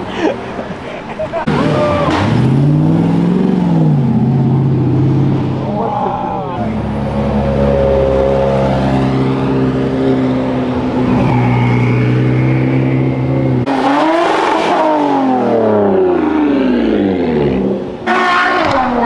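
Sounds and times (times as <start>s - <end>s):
sports car accelerating away: 1.4s - 5.8s, 6.6s - 18.0s.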